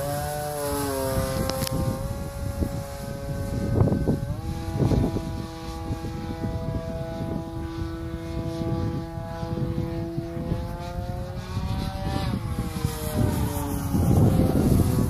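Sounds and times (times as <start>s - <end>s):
electric motor and propeller whining: 0.0s - 15.0s
wind rumbling on microphone: 0.0s - 15.0s.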